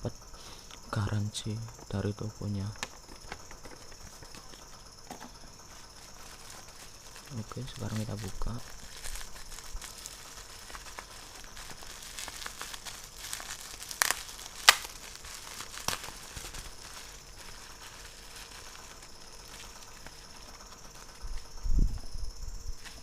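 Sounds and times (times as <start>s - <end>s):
plastic packaging crinkling: 1.5s - 22.0s.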